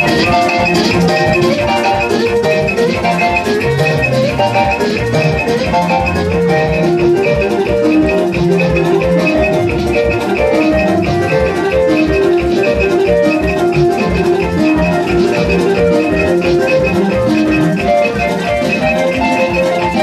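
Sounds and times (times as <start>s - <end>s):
upbeat dance music: 0.0s - 20.0s.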